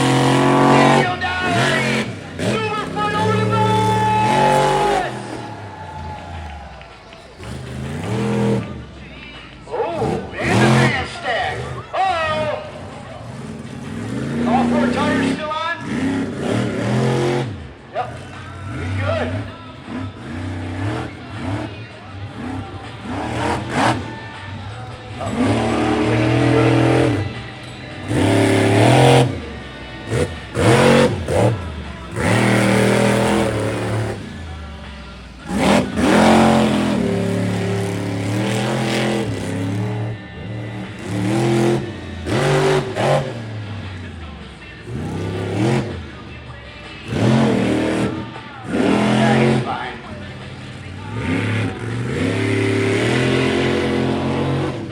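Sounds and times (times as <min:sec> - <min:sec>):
monster truck engine revving: 0:00.0 - 0:54.9.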